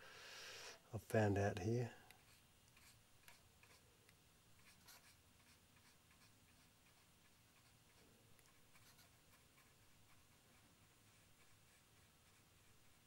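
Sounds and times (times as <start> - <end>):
paintbrush ticks and scratches: 2.0 - 13.0.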